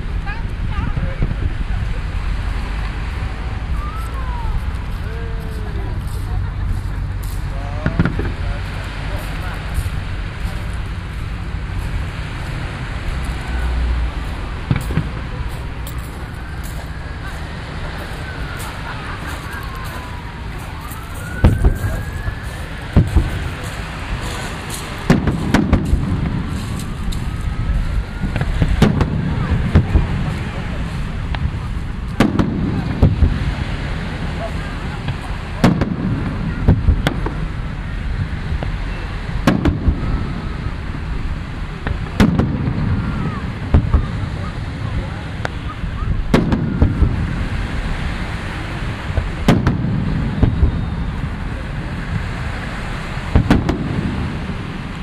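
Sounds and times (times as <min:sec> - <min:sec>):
fireworks bangs: 0:00.0 - 0:55.0
low rumble: 0:00.0 - 0:55.0.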